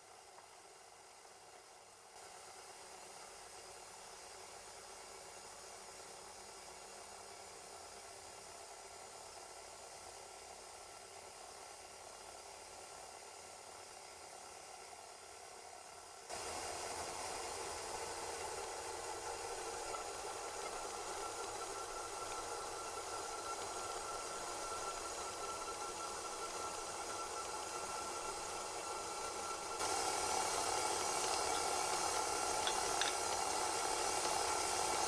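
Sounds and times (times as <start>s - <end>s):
stand mixer whirring: 1.4s - 35.0s.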